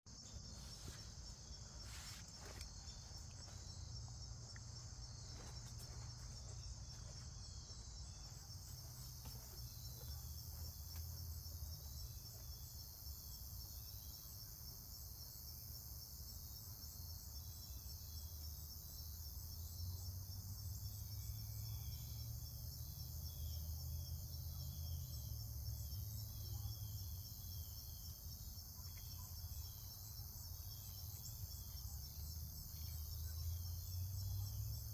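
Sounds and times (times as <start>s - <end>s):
insects trilling: 0.1s - 34.9s.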